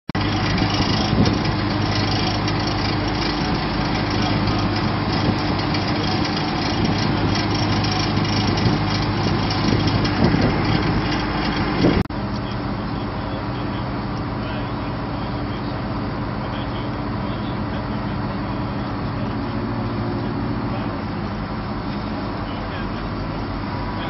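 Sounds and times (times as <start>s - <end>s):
engine droning: 0.1s - 24.0s.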